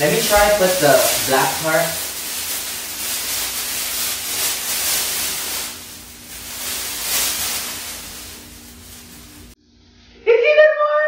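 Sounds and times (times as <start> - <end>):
thermal blanket crinkling: 0.0 - 9.6.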